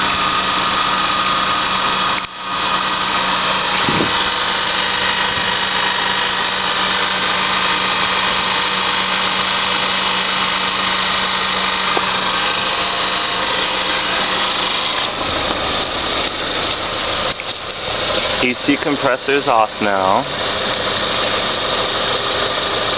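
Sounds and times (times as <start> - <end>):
engine metallic clanging whir: 0.0 - 22.9.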